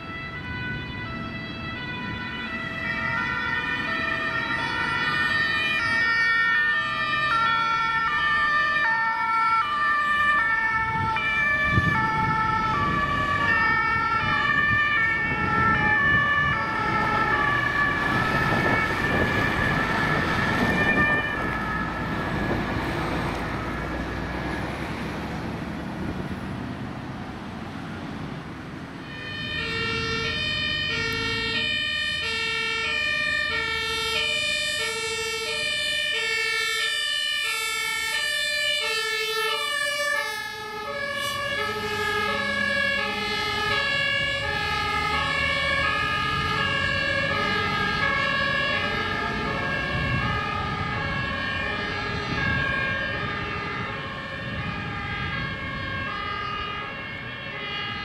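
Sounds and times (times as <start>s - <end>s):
two-tone emergency siren: 0.0s - 25.4s, 28.9s - 58.0s.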